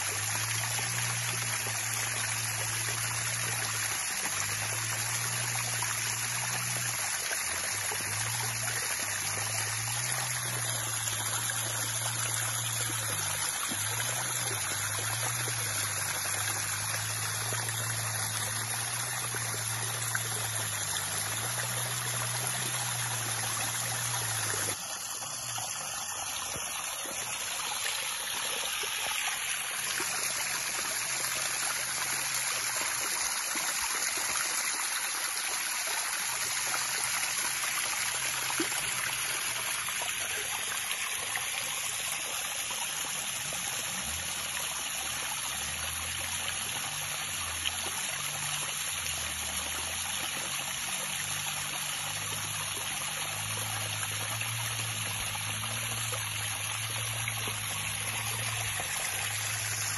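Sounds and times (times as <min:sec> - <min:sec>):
creek running over rocks: 0:00.0 - 0:59.9.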